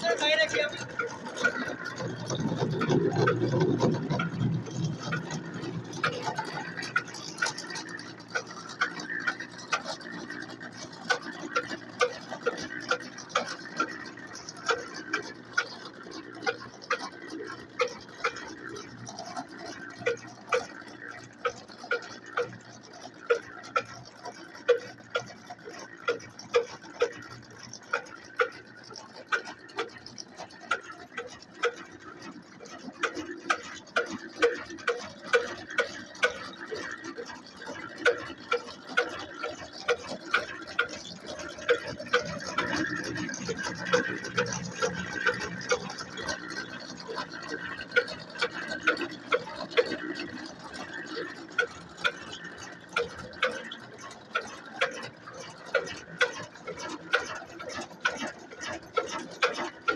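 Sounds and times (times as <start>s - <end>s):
diesel engine thumping: 0.0s - 54.3s
flour mill mechanical drone: 0.0s - 59.9s.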